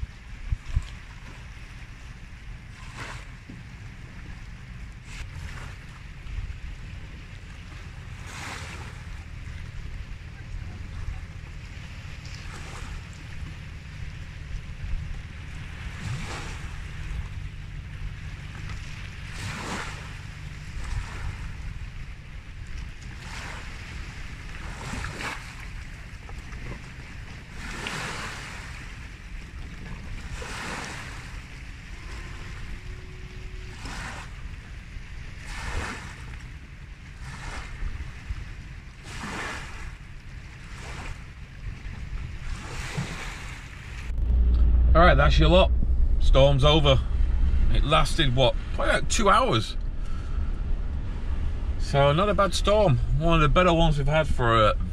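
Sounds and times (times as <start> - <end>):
waves washing onto shore: 0.0 - 54.9
wind on microphone: 0.0 - 54.9.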